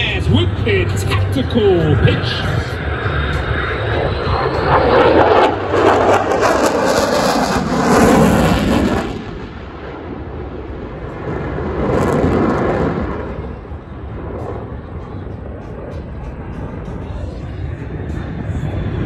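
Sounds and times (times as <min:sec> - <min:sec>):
jet flying overhead: 0:00.0 - 0:19.0.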